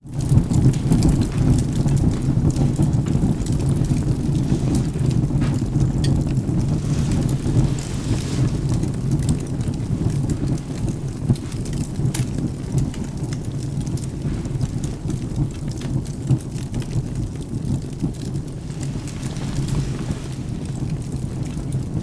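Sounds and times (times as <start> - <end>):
rain: 0.0 - 22.0
thunder rumble: 0.0 - 22.0
wood fire crackling: 0.0 - 22.0.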